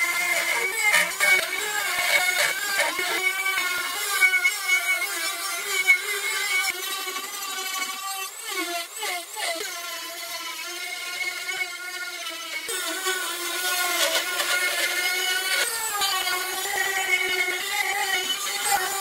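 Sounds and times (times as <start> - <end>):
rotary tool whine cutting wood: 0.0 - 19.0.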